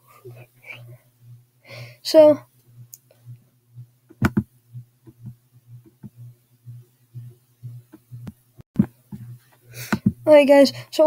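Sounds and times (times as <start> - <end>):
pulsing low hum: 0.0 - 11.0.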